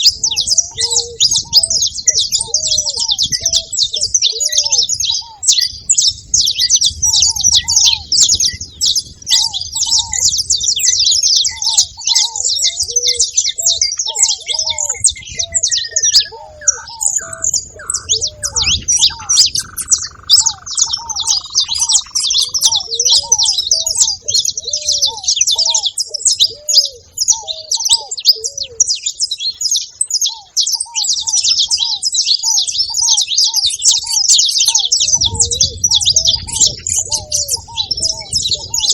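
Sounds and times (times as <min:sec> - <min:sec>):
descending bird call: 0:00.0 - 0:38.9
doves cooing: 0:00.0 - 0:38.9
finches chirping chorus: 0:00.0 - 0:38.9.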